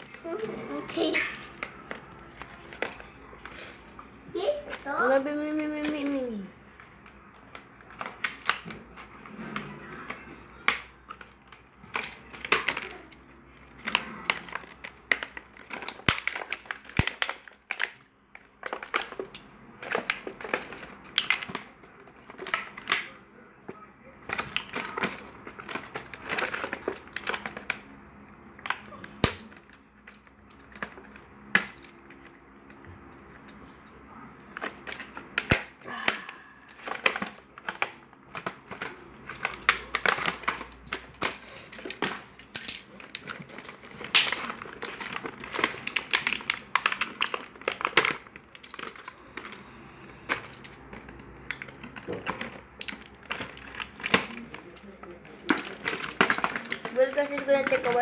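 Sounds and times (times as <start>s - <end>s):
plastic packaging crinkling: 0.0s - 23.2s, 24.3s - 58.0s.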